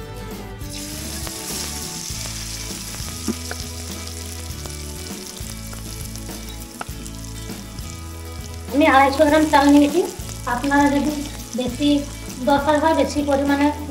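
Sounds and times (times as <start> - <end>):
rice sizzling in hot oil: 0.7 - 13.9.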